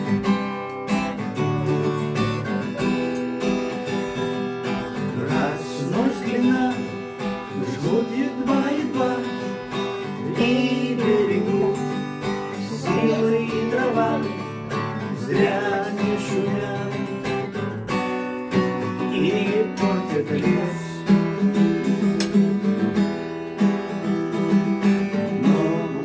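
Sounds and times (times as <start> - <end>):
acoustic guitar strumming: 0.0 - 26.0
sliding guitar melody: 0.0 - 26.0.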